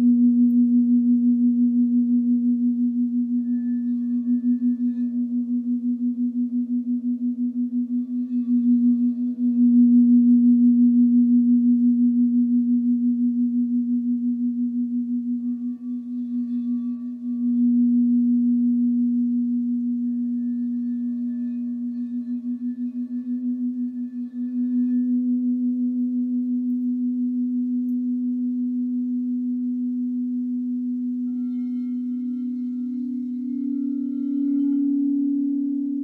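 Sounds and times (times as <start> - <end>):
singing bowl deep sustained tone: 0.0 - 36.0.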